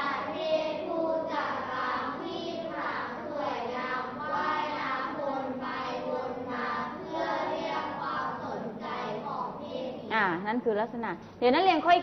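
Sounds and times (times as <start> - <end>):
children reciting in unison: 0.0 - 10.1.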